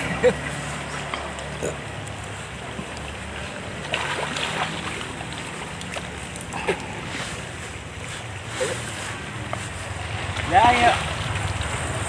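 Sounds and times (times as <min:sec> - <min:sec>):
stream water rushing: 0:00.0 - 0:12.0
splashes from wading: 0:02.2 - 0:12.0.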